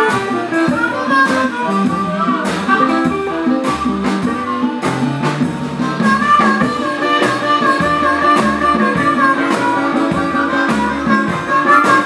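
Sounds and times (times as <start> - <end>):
amplified harmonica: 0.0 - 12.0
blues band playing: 0.0 - 12.0
drum kit: 0.0 - 12.0
upright bass: 0.0 - 12.0
washboard guitar: 0.0 - 12.0.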